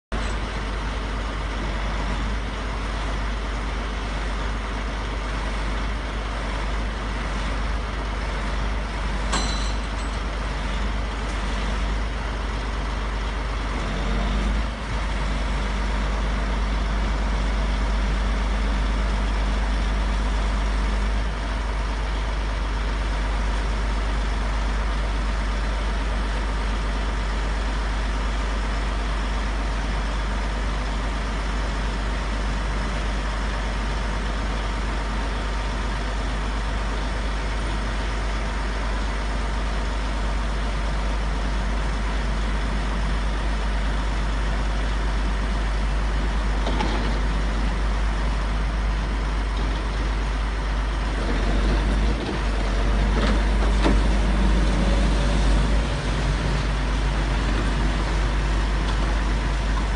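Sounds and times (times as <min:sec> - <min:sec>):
diesel truck engine droning: 0:00.1 - 0:59.9.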